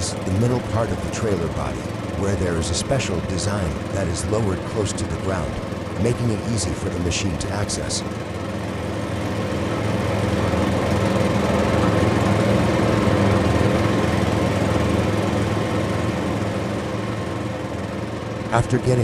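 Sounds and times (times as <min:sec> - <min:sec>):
excavator diesel engine under load: 0:00.0 - 0:19.0.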